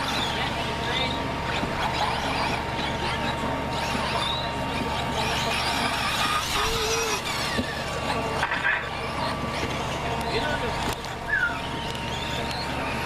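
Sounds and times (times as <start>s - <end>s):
rc car motors whining: 0.0s - 13.0s.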